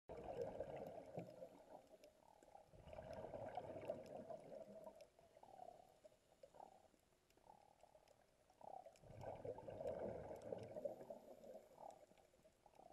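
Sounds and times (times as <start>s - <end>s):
underwater gurgling and bubbling: 0.1s - 12.9s
small clicks: 0.8s - 3.2s, 3.8s - 12.9s.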